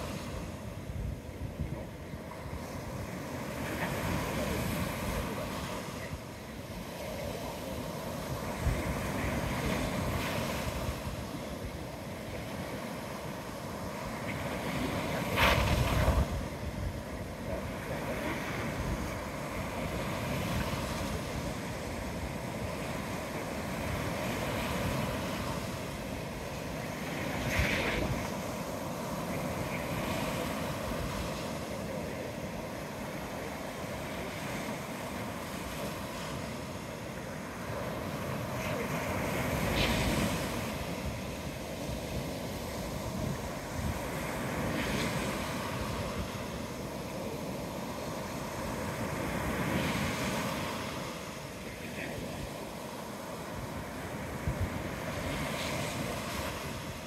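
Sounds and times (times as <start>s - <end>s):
ocean surf washing ashore: 0.0s - 57.0s
wind on microphone: 0.0s - 57.0s.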